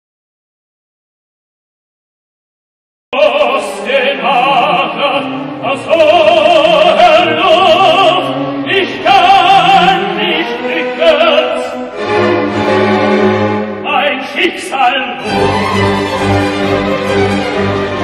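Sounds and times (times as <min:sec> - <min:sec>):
operatic tenor singing: 0:03.2 - 0:18.0
orchestral accompaniment: 0:03.2 - 0:18.0.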